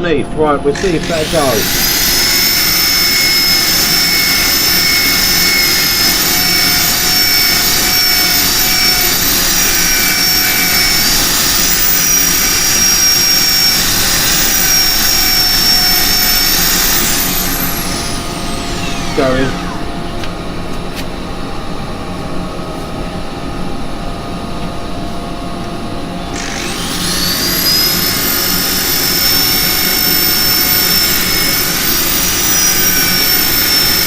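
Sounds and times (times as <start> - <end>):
power sander whining: 0.7 - 20.4, 26.3 - 34.0.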